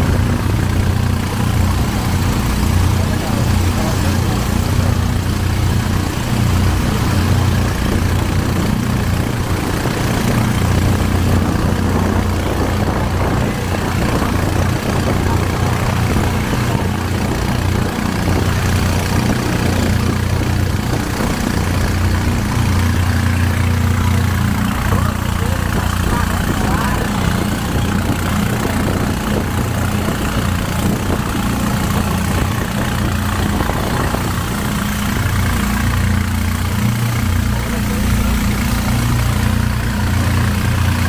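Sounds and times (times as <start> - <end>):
boat motor droning: 0.0 - 41.0.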